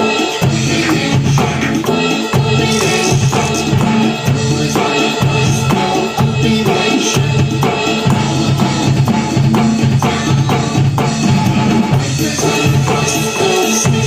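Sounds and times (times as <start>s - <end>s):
electronic drum kit rock beat: 0.0s - 14.0s
rock backing track: 0.0s - 14.0s.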